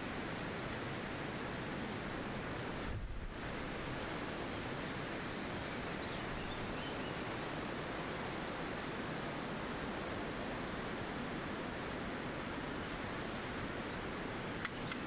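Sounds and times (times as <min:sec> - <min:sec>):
wind rustling through trees: 0:00.0 - 0:15.0.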